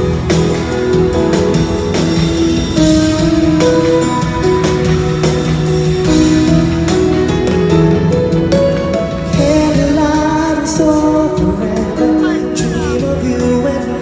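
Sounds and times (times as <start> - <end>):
guitar chords: 0.0 - 14.0
steady drum beat: 0.0 - 14.0.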